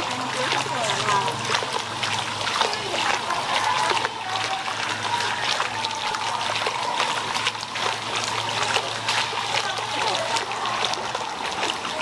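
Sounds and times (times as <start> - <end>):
water trickling into pool: 0.0 - 12.0.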